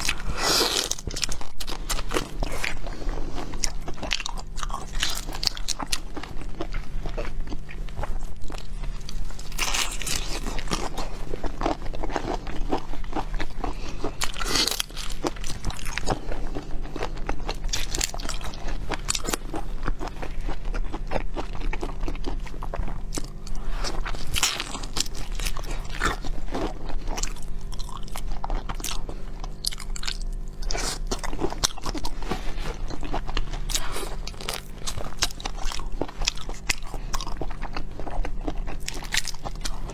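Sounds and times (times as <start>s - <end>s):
chewing and crunching seafood: 0.0s - 39.9s
low electrical hum: 0.0s - 39.9s.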